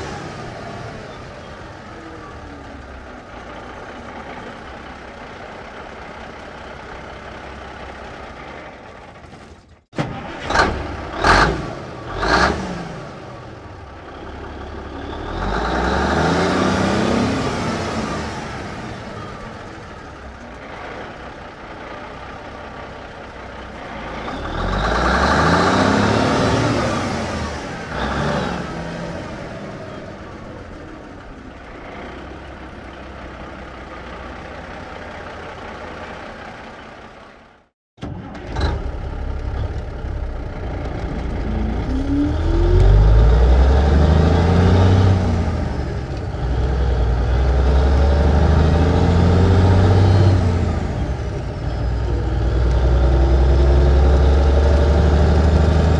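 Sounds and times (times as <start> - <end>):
truck engine revving: 10.0 - 37.2, 38.0 - 55.9.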